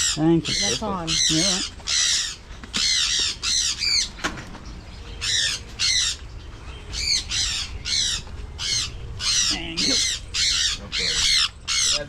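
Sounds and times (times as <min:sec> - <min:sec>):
parrots squawking: 0:00.0 - 0:04.2, 0:05.2 - 0:12.0.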